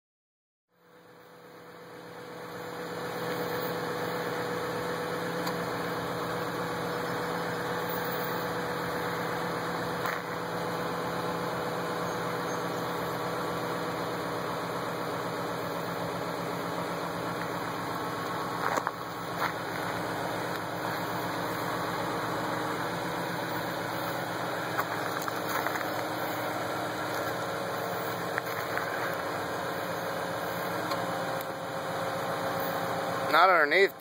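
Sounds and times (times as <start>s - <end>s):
vehicle engine idling: 0.7s - 34.0s.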